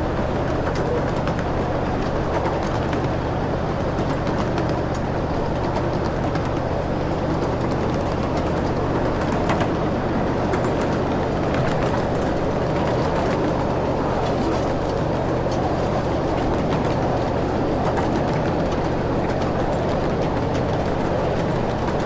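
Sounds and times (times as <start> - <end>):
park train wheels rumbling: 0.0 - 22.0
rail clicks and clacks: 0.0 - 22.0.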